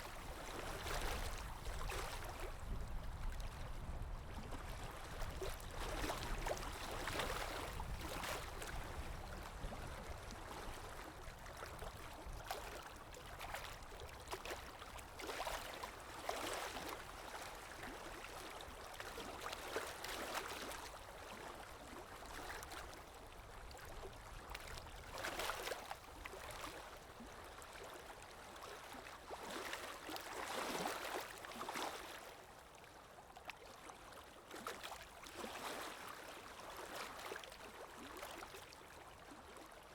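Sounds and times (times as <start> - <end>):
sea waves lapping on shore: 0.0 - 32.8.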